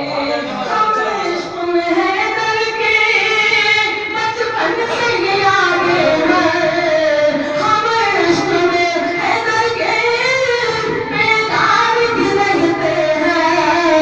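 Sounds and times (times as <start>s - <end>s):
man singing into a microphone: 2.7s - 14.0s.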